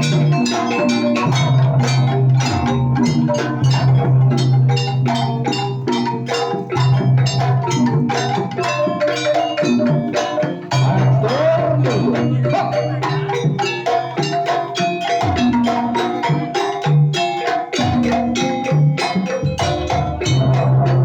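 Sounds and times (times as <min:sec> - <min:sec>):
gamelan dance music: 0:00.0 - 0:21.0.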